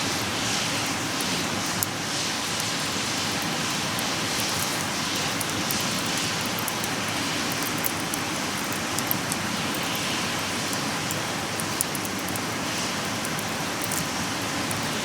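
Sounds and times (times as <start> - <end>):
campfire crackling and hissing: 0.0 - 15.0.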